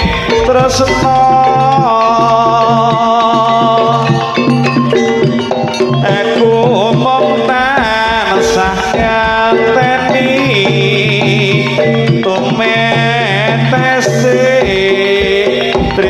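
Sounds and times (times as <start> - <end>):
sliding wavering melody: 0.0 - 13.4
gong and metallophone tones: 0.0 - 16.0
hand drums beating: 0.0 - 16.0.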